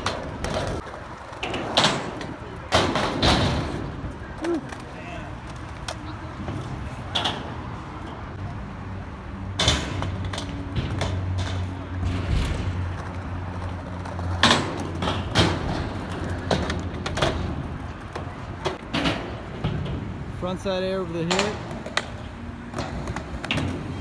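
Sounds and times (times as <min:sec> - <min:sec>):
skateboard clacking on ground: 0:00.0 - 0:08.5, 0:09.5 - 0:20.2, 0:20.8 - 0:24.0
skateboard wheels rolling on concrete: 0:00.0 - 0:24.0.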